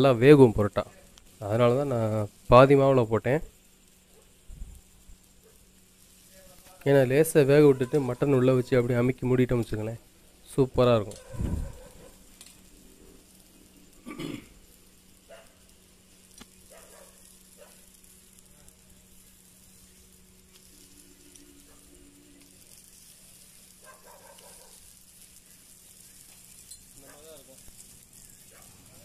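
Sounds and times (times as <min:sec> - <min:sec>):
dough sizzling on a griddle: 0:00.0 - 0:29.0.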